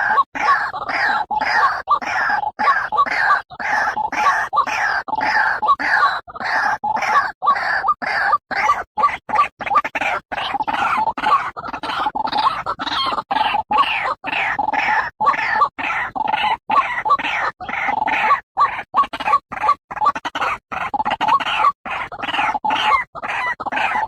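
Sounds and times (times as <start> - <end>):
bird calling harsh croaking notes: 0.0 - 24.0.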